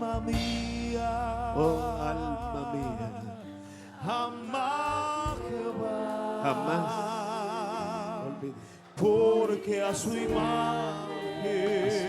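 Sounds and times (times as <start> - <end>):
sustained instrumental accompaniment: 0.0 - 12.0
person singing with vibrato: 0.1 - 12.0.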